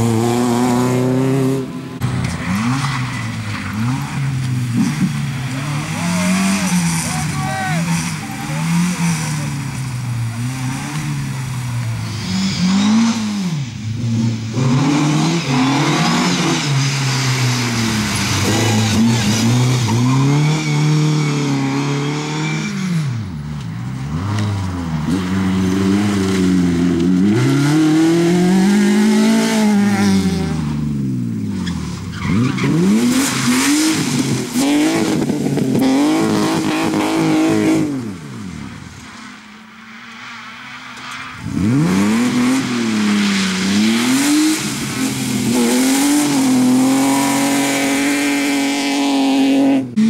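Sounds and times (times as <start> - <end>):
rally car engines revving: 0.0 - 50.0.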